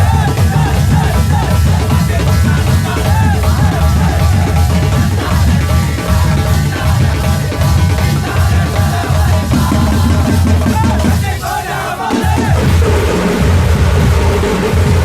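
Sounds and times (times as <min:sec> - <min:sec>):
fast driving drumming: 0:00.0 - 0:15.0.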